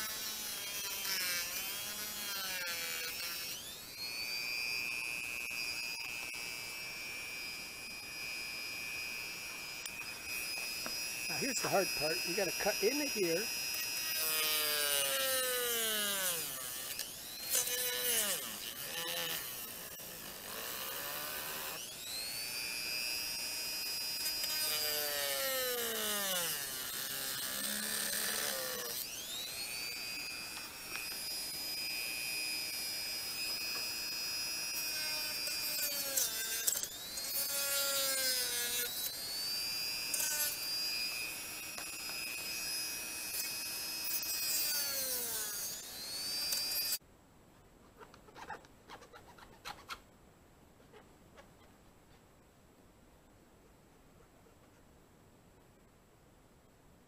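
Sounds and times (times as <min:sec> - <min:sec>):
rotary tool whining: 0:00.0 - 0:47.0.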